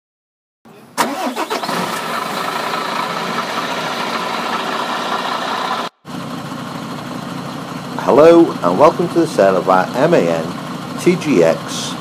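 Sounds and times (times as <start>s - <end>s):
diesel engine idling: 1.0s - 12.0s.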